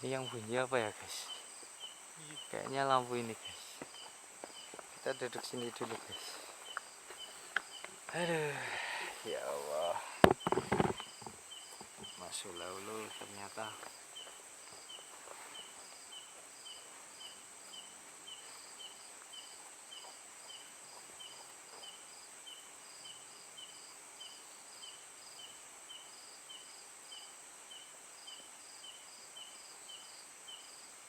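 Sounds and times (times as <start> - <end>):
faint insect chirp: 0.0 - 31.0
insects buzzing: 0.0 - 31.0.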